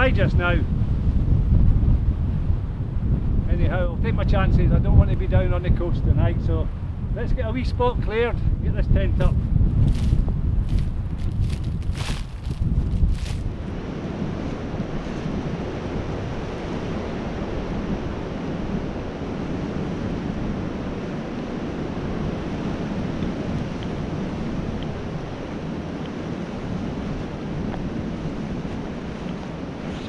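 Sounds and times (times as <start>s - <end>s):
strong wind blowing: 0.0s - 30.0s
wind buffeting microphone: 0.0s - 30.0s.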